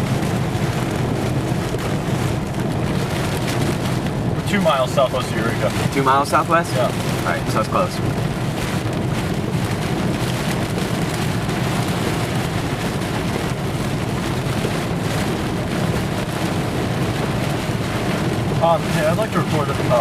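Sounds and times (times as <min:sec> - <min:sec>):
rain on a car: 0:00.0 - 0:20.0
road and engine noise: 0:00.0 - 0:20.0.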